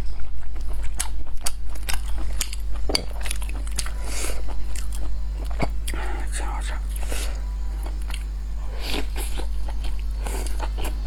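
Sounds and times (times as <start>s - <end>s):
person chewing: 0.0s - 11.0s
steady low hum: 0.0s - 11.0s.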